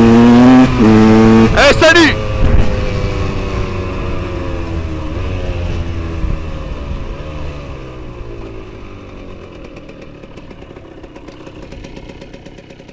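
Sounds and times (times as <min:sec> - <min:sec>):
two-stroke motorcycle engine revving: 0:00.0 - 0:12.9.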